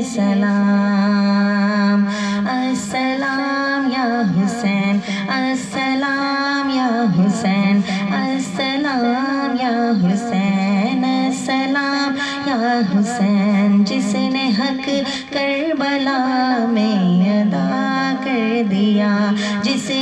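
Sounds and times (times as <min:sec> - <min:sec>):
woman singing devotional poem: 0:00.0 - 0:20.0.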